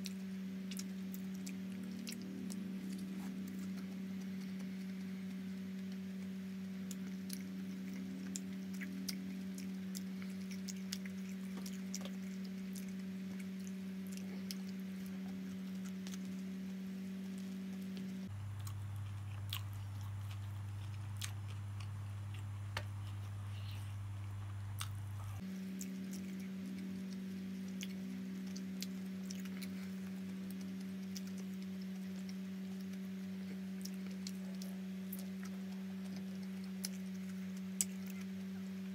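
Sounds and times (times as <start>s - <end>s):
low steady hum: 0.0s - 38.9s
man chewing food: 0.0s - 38.9s.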